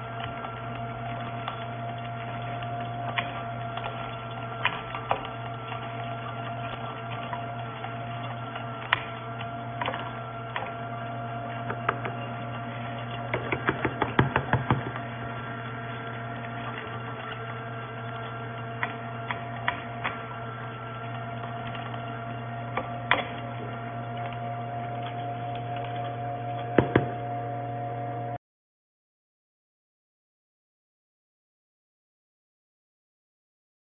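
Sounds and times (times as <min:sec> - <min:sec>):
grinder motor humming: 0:00.0 - 0:28.4.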